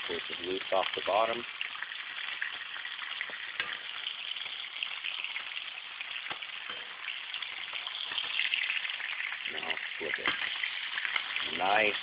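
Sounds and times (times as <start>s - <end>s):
fish sizzling in frying pan: 0.0s - 12.0s.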